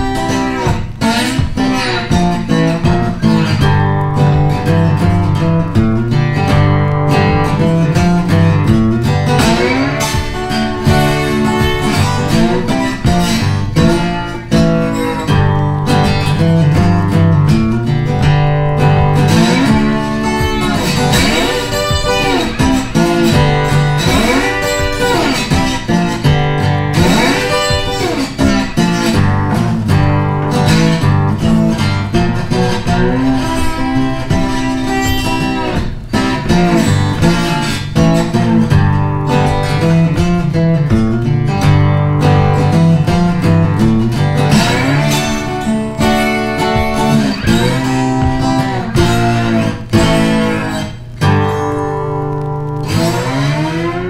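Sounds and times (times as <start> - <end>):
guitar background music: 0.0 - 54.0.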